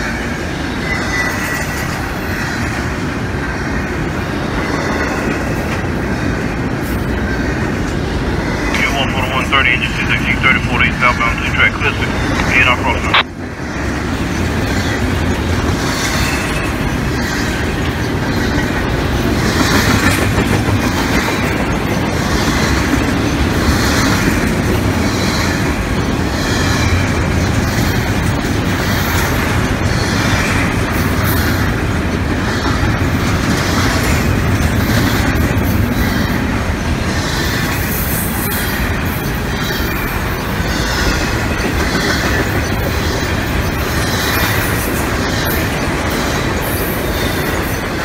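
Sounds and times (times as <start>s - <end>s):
freight train wheels rumbling on rails: 0.0s - 48.0s.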